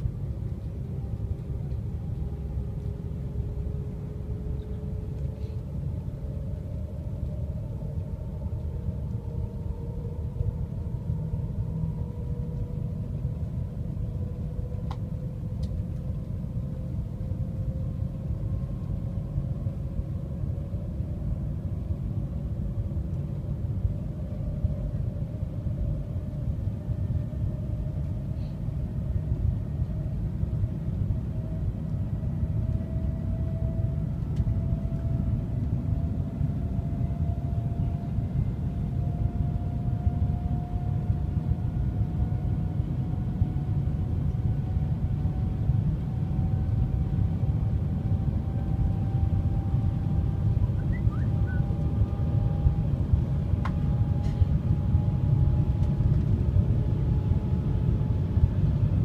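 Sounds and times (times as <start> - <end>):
faint rising whine: 0.0 - 59.0
train cabin low rumble: 0.0 - 59.0.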